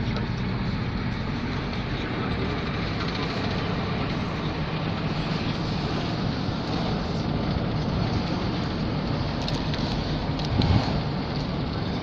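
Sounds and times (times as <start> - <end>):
pickup truck engine rumble: 0.0 - 12.0
road noise: 0.0 - 12.0.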